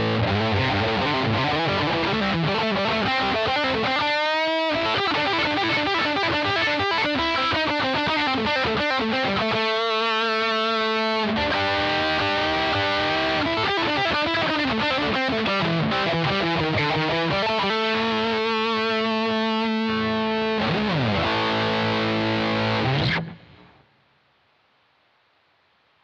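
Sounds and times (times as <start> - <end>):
distorted electric guitar lead: 0.0 - 23.8.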